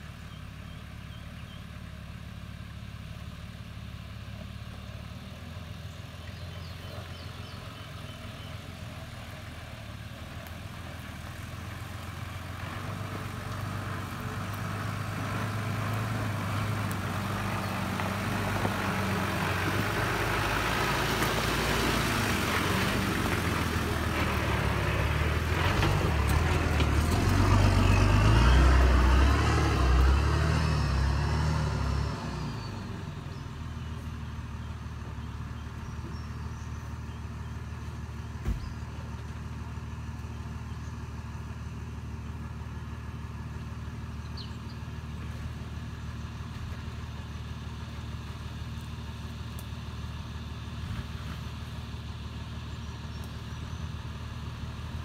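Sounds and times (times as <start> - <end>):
off-road engine revving: 4.1 - 55.0.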